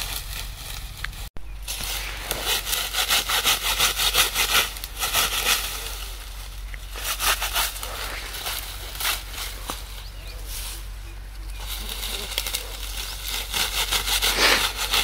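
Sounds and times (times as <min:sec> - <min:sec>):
sickle cutting dry grass: 0:00.0 - 0:15.0.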